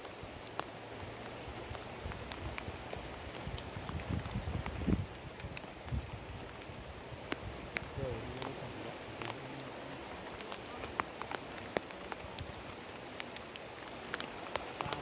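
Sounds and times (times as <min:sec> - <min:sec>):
rain hissing: 0:00.0 - 0:15.0
raindrops tapping: 0:00.0 - 0:15.0.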